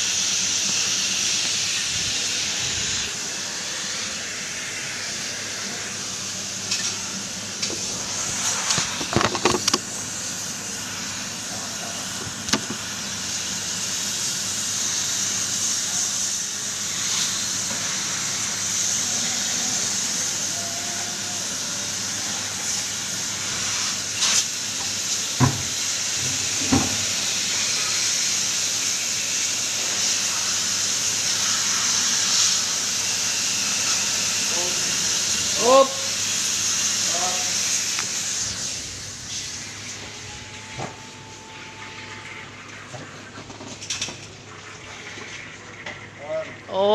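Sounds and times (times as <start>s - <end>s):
pressure washer spraying water: 0.0s - 46.2s.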